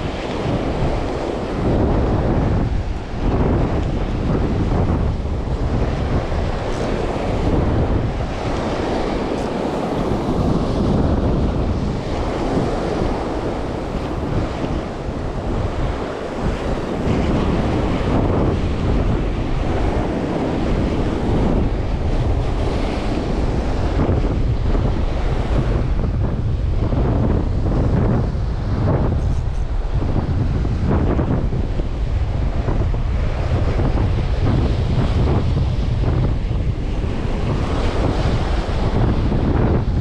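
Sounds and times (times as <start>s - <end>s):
surf breaking on rocky shore: 0.0s - 40.0s
wind buffeting microphone: 0.0s - 40.0s.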